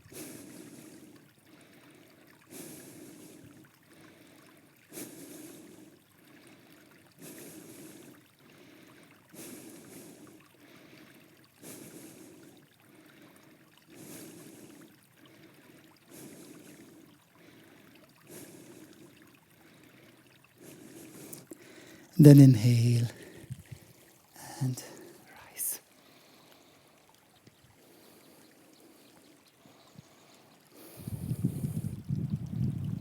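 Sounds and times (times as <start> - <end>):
slow breathing close to microphone: 0.1 - 22.2, 23.1 - 27.1, 27.7 - 32.0.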